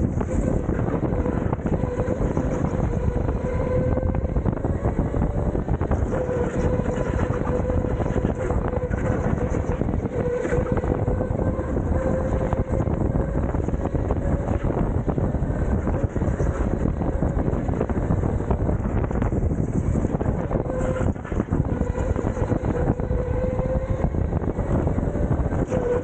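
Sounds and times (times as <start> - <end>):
wind noise on microphone: 0.0 - 26.0
electric motor whine: 0.1 - 26.0.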